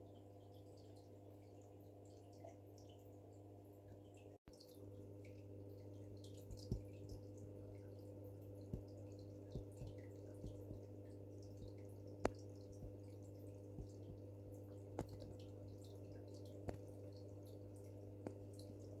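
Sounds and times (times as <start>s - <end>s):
aquarium equipment humming: 0.0s - 19.0s
water dripping: 0.0s - 19.0s.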